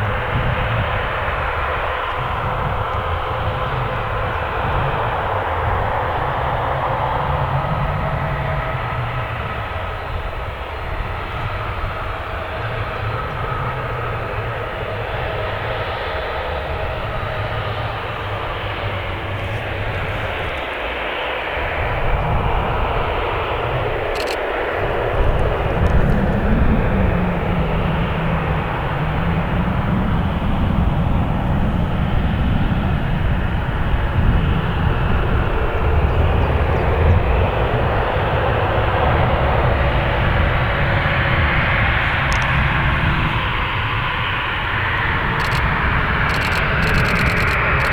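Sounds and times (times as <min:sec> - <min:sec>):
jet engines whining at taxi power: 0:00.0 - 0:47.9.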